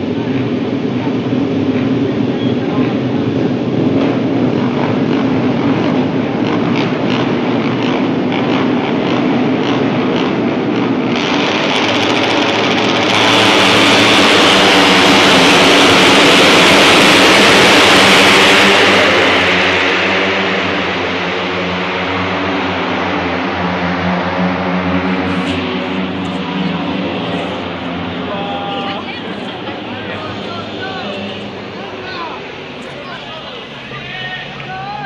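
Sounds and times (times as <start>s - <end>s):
racing motorcycles at full throttle: 0.0s - 35.0s.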